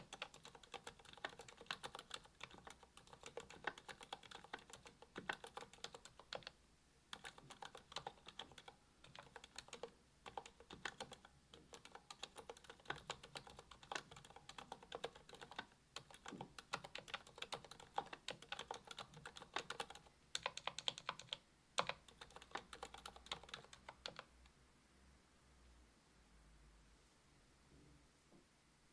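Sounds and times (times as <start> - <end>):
typing on mechanical keyboard: 0.0 - 24.3.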